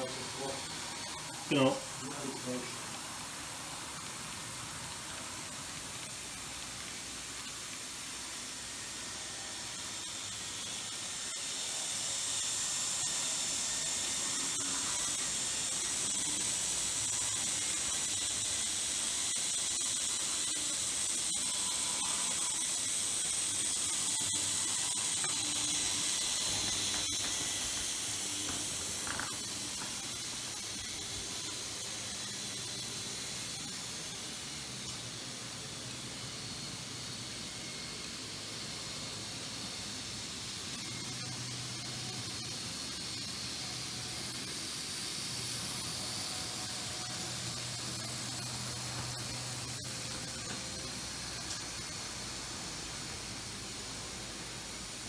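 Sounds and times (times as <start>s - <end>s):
model train motor whine: 0.0s - 55.0s.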